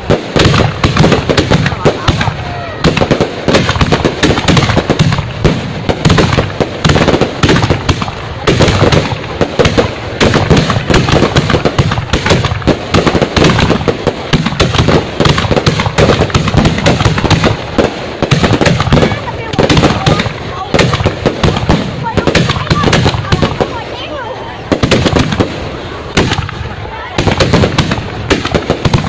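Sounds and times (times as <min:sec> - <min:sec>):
fireworks crackling: 0:00.0 - 0:29.0.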